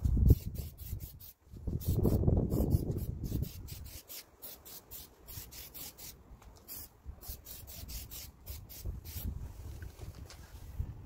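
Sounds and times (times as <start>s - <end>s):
aerosol can spraying: 0.3s - 9.3s.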